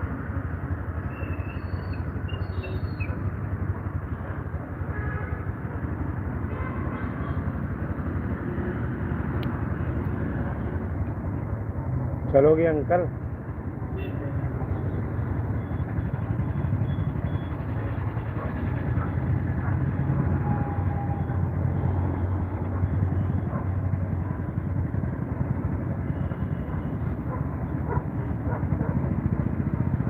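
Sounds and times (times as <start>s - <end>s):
road and traffic noise: 0.0s - 30.0s
vehicle engine humming: 0.0s - 30.0s.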